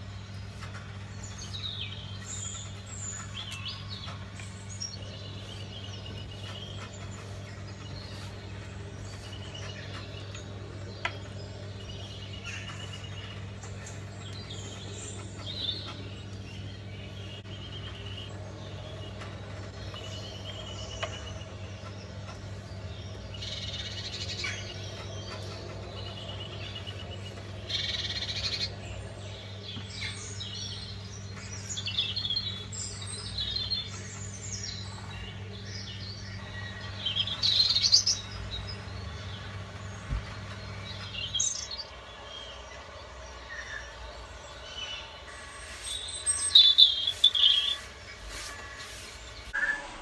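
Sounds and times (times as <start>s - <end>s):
small birds chirping: 0.0s - 50.0s
steady low hum: 0.0s - 50.0s.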